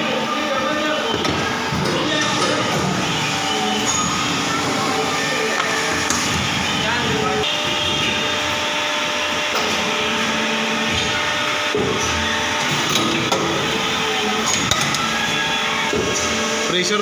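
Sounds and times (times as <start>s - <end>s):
moulding machine droning: 0.0s - 17.0s.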